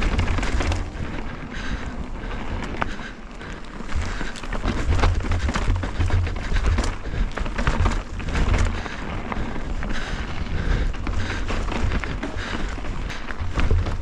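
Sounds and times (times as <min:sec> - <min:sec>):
bike clicking and rattling: 0:00.0 - 0:14.0
bike tyres crunching on dirt: 0:00.0 - 0:14.0
wind rumble: 0:00.0 - 0:14.0.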